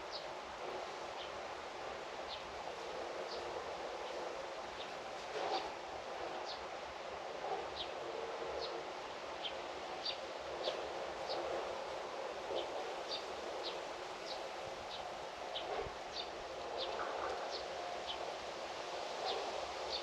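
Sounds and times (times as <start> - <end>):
outdoor ambience hiss: 0.0 - 20.0.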